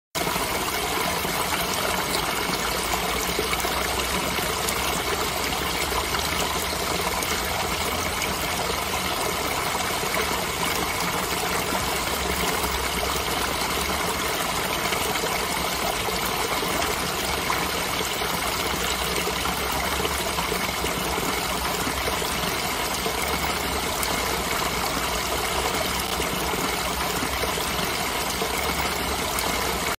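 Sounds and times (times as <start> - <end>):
creek water trickling over rocks: 0.2 - 30.0.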